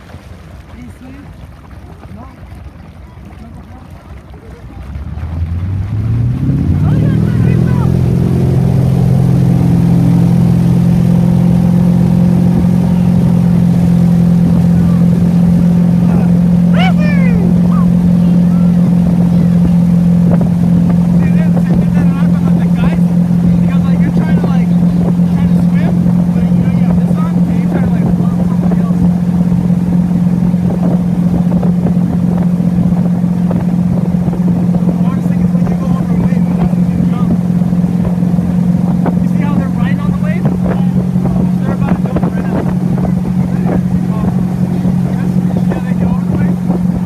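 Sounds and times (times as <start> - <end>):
motorboat engine droning: 0.0 - 47.0.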